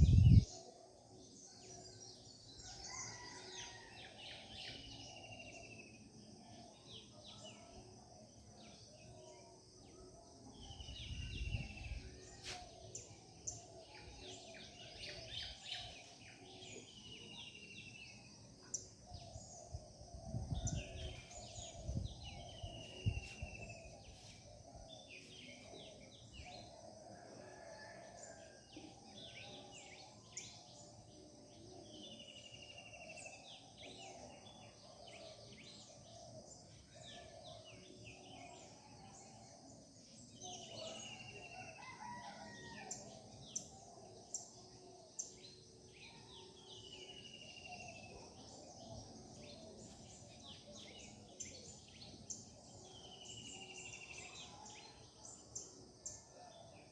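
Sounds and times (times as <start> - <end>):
birds chirping and trilling: 0.0 - 56.9.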